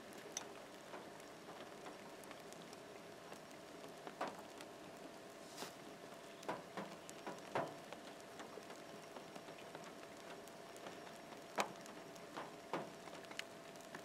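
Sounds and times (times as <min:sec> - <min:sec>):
raindrops tapping: 0:00.0 - 0:05.3, 0:05.9 - 0:14.0
faint steady hum: 0:00.0 - 0:14.0
rain falling: 0:00.0 - 0:14.0.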